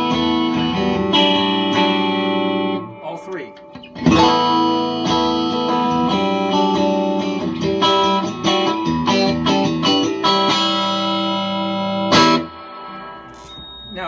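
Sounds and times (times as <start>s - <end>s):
electric guitar chords: 0.0s - 13.9s.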